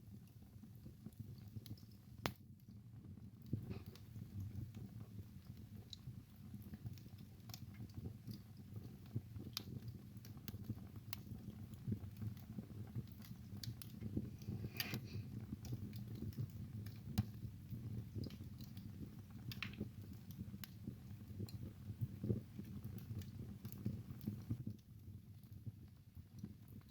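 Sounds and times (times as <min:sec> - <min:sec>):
fire crackling and popping: 0:00.0 - 0:26.9
low rumble of flames: 0:00.0 - 0:26.9.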